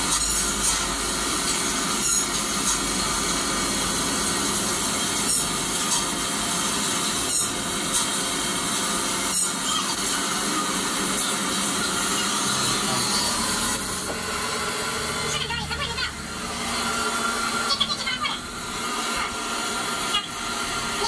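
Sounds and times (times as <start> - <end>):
motor-driven power tool running: 0.0 - 21.0.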